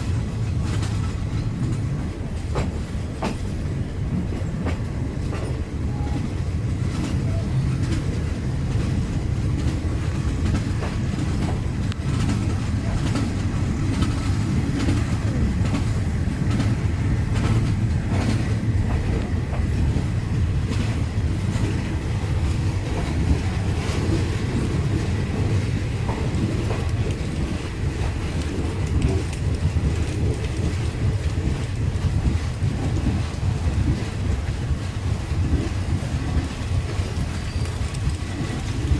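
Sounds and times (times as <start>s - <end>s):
train rumbling on track: 0.0s - 38.9s
wheels clicking over rail joints: 0.0s - 38.9s.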